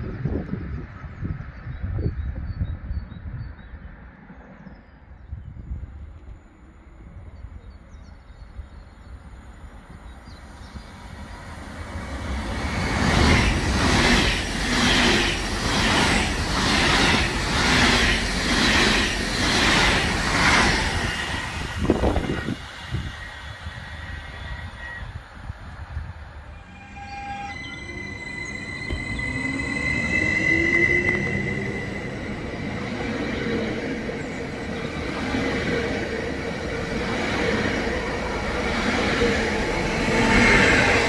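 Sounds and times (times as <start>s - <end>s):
passenger train passing: 0.0s - 41.0s.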